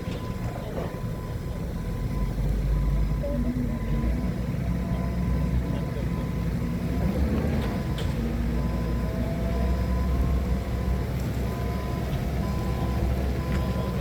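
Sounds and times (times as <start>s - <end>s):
forklift engine running: 0.0s - 14.0s.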